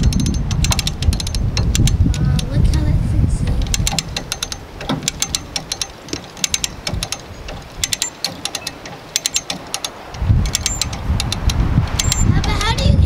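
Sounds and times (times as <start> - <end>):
hand winch ratcheting: 0.0 - 13.0.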